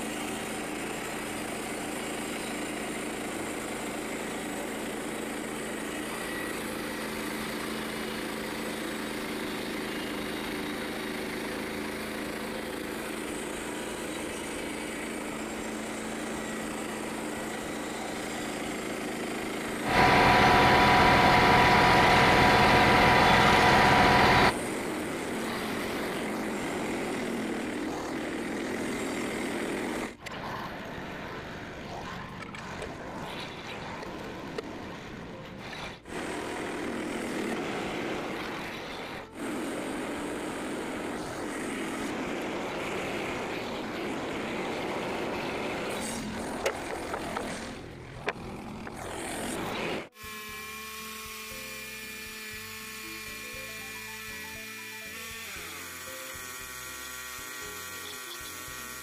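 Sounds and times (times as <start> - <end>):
band blade sawing wood: 0.0 - 30.4, 35.6 - 59.0
bandsaw mill gasoline engine: 0.0 - 59.0.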